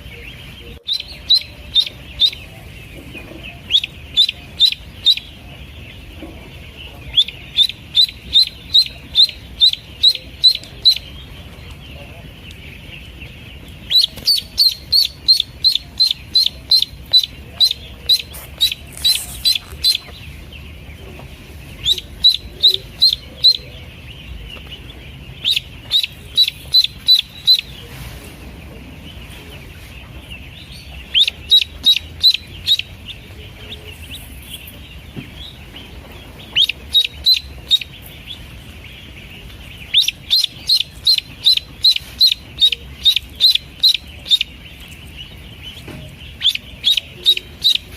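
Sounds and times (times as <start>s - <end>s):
ducklings peeping: 0.0s - 47.9s.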